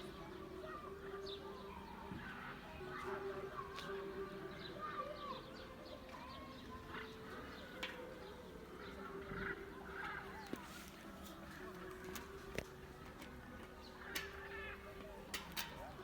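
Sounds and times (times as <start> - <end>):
birds calling and chirping: 0.0 - 16.0.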